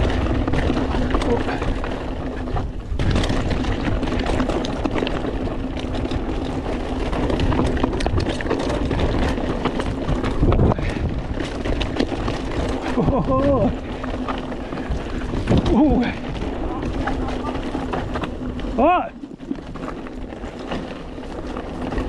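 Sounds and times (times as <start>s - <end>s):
bike rattling over bumps: 0.0s - 22.0s
bike tyres on dirt: 0.0s - 22.0s.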